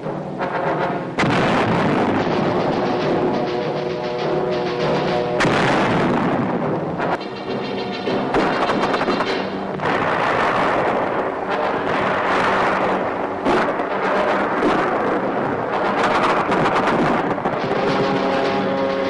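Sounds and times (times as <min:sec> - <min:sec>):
gunfire and artillery fire: 0:01.2 - 0:07.4, 0:08.1 - 0:19.0
sharp crack: 0:01.2 - 0:19.0.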